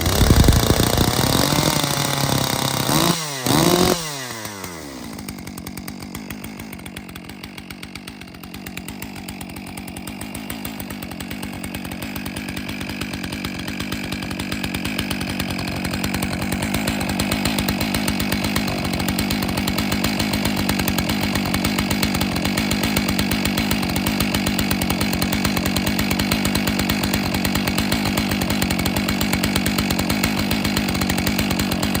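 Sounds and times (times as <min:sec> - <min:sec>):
chainsaw idling: 0:00.0 - 0:32.0.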